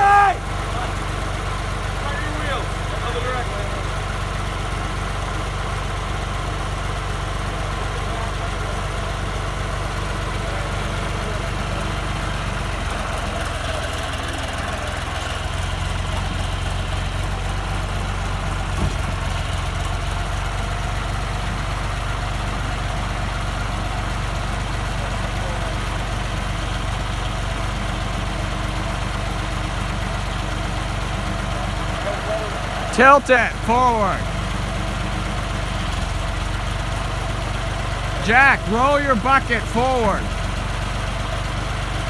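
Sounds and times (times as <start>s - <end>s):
diesel tractor engine idling: 0.0s - 42.0s.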